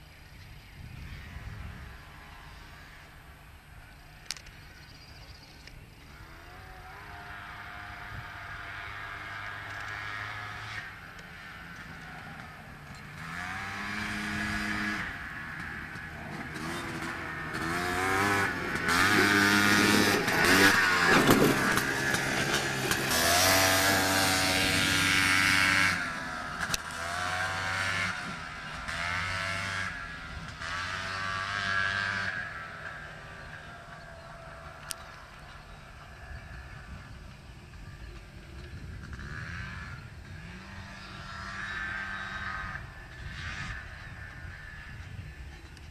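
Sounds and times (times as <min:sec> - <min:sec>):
dune buggy engine revving past: 0:00.0 - 0:45.9.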